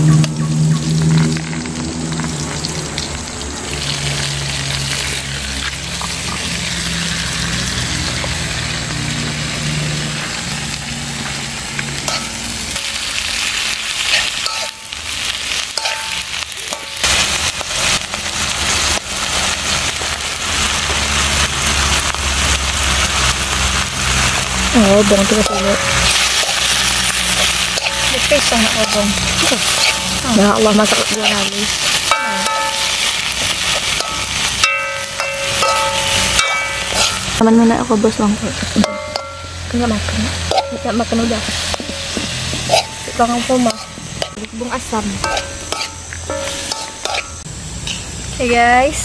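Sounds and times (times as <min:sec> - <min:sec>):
greens sizzling in hot oil: 0:00.8 - 0:49.0
spatula scraping wok: 0:03.7 - 0:37.4, 0:38.3 - 0:48.5.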